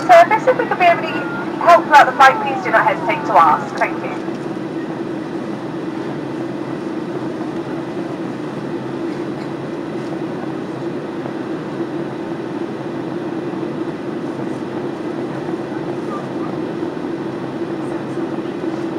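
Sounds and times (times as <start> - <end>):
airplane cabin engine drone: 0.0 - 18.9.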